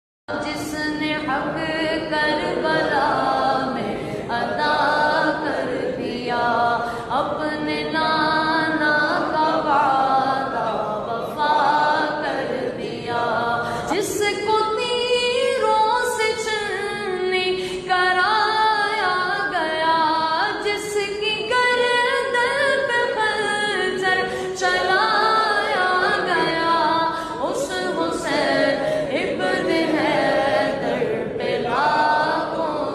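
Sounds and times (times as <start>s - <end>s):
voices singing a cappella: 0.3s - 32.9s.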